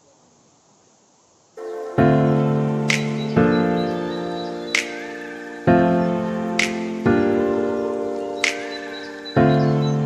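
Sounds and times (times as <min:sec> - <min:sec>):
soft keyboard chords: 0:01.6 - 0:10.0.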